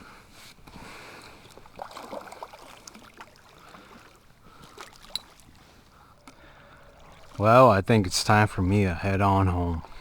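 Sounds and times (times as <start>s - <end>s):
water splashing and trickling: 1.0s - 10.0s.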